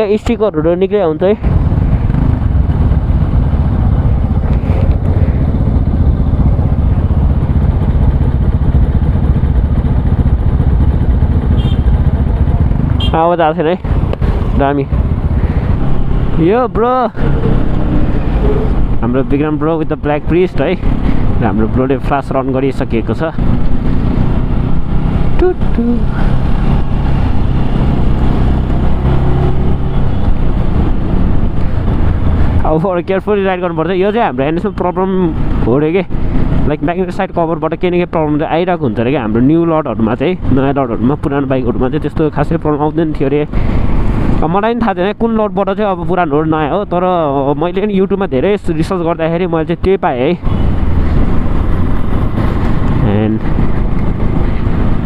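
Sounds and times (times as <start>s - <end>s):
motorcycle engine running: 0.0s - 44.4s, 50.4s - 55.0s
road and wind noise: 0.0s - 55.0s.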